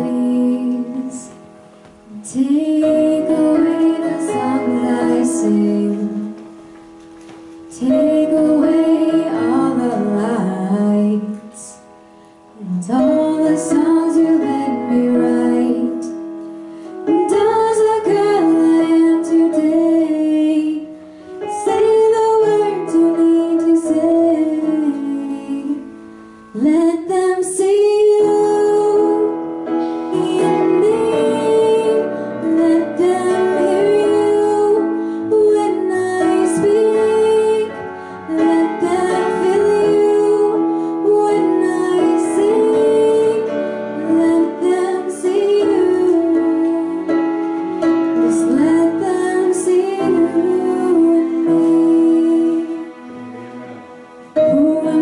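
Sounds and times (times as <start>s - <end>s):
woman singing slow song: 0.0s - 6.6s, 7.7s - 12.0s, 12.6s - 16.3s, 17.0s - 47.4s, 48.0s - 53.2s, 54.4s - 55.0s
instrumental accompaniment: 0.0s - 55.0s.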